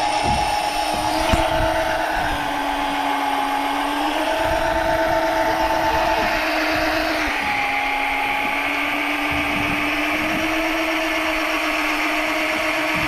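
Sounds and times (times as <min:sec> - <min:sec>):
motor humming with whine: 0:00.0 - 0:13.0.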